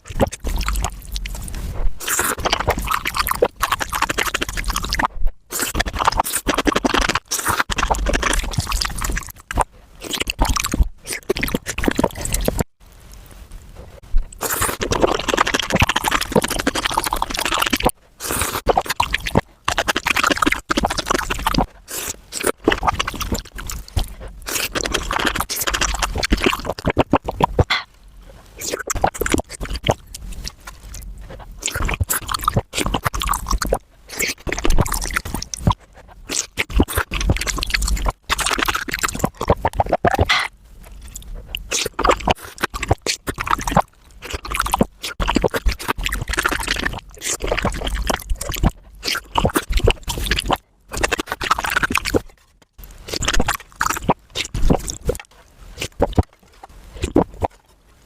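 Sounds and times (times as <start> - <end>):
chewing: 0.0 - 12.7, 13.8 - 58.0
wet slurps: 0.0 - 12.7, 14.2 - 57.7.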